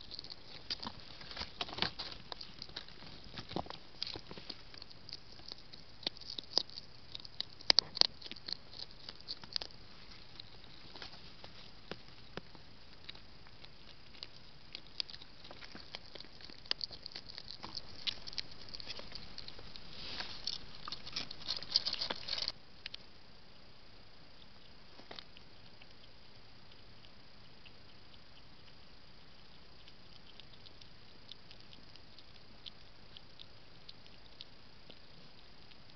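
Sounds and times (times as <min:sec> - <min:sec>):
hedgehog clicks and crackles: 0:00.0 - 0:23.1, 0:24.4 - 0:35.9.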